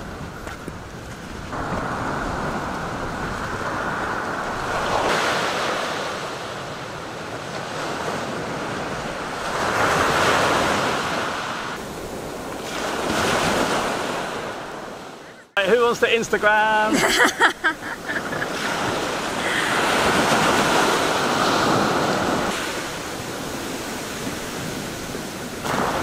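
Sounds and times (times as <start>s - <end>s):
wind on microphone: 0.0s - 15.4s, 17.6s - 26.0s
surf breaking on beach: 0.0s - 26.0s.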